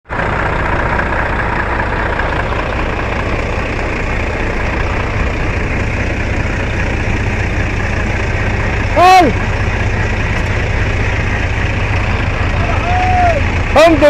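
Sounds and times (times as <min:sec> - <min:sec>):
heavy truck engine drone: 0:00.0 - 0:14.0.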